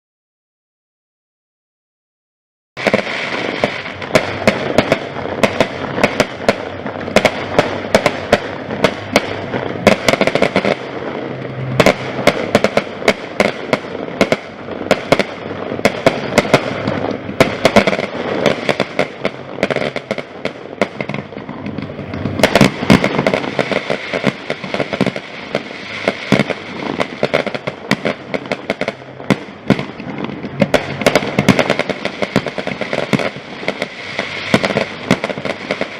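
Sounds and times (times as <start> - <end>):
fireworks bangs and crackles: 2.8 - 35.9
dense rumbling background: 3.8 - 35.2.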